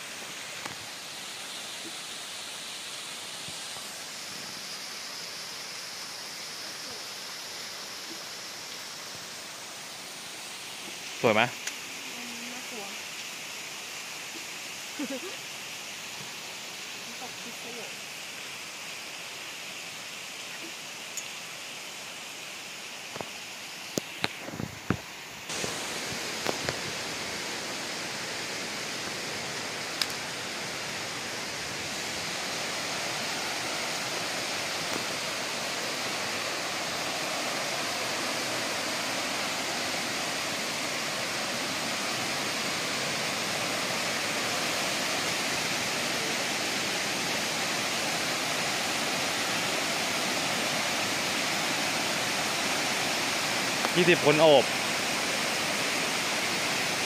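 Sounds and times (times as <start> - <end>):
water rushing over cascades: 0.0 - 57.0.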